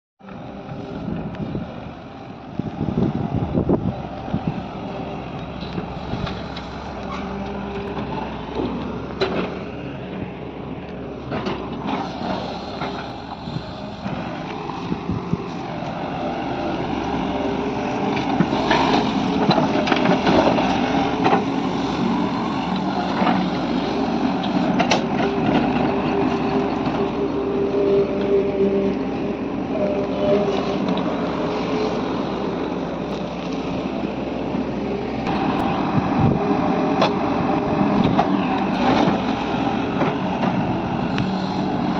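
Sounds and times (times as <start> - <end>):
excavator diesel engine under load: 0.2 - 41.9.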